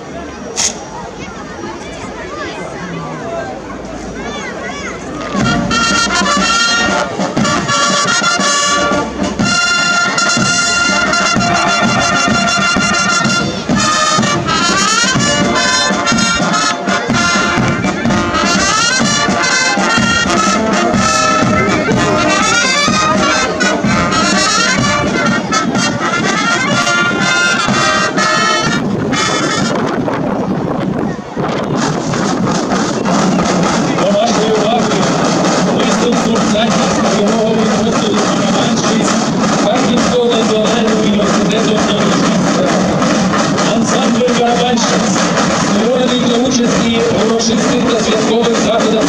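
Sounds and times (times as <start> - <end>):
brass band playing a march: 5.1 - 30.8, 31.4 - 49.0.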